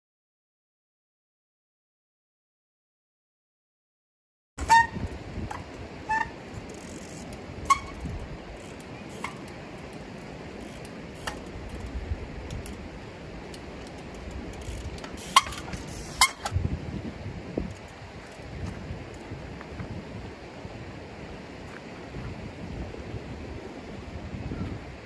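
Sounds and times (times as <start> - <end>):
outdoor background noise: 4.6 - 25.0.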